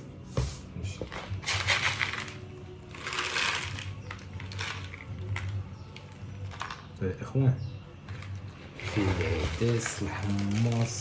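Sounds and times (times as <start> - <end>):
dry beans rattling: 1.1 - 7.0, 8.0 - 11.0.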